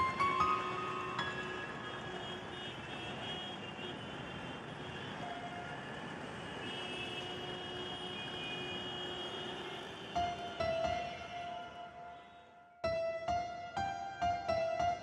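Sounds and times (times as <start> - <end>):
city street traffic: 0.0 - 12.9.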